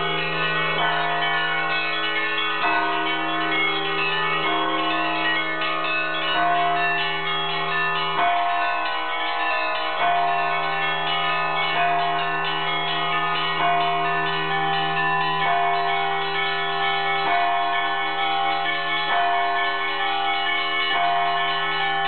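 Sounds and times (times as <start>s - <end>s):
big bell struck: 0.0s - 22.0s
deep bell hum: 0.0s - 22.0s
smaller bells ringing: 0.0s - 22.0s.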